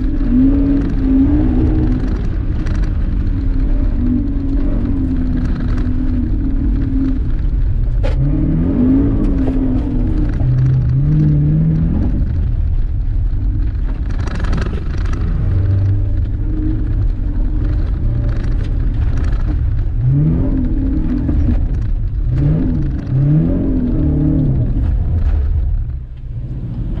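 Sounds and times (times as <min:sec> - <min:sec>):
car engine revving: 0:00.0 - 0:27.0
gravel crackling under car: 0:00.0 - 0:27.0.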